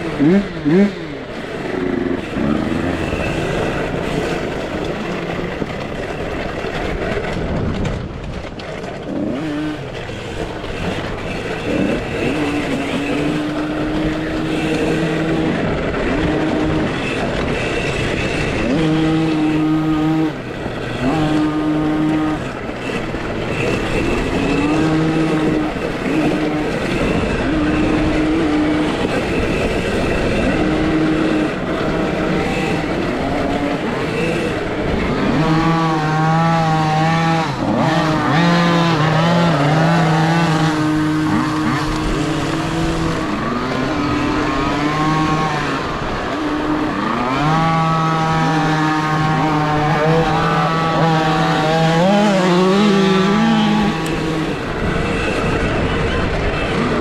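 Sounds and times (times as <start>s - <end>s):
electric motorbike motor whining: 0.0s - 57.0s
wind and track noise: 0.0s - 57.0s.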